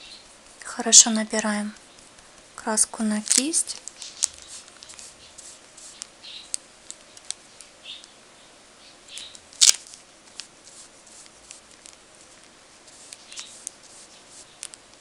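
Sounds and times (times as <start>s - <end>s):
paintbrush rustling on paper: 0.0s - 7.4s, 9.2s - 15.0s.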